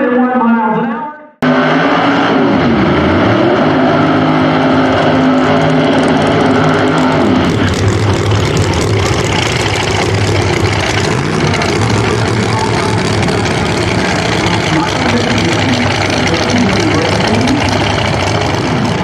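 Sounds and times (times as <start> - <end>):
drag car engines revving: 1.4 - 19.0.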